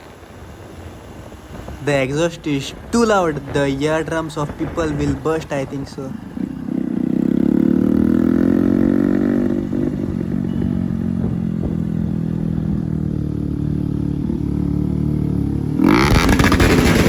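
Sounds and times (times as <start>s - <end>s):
motorcycle engine idling: 0.0s - 17.0s
motorcycle engine revving: 0.0s - 17.0s.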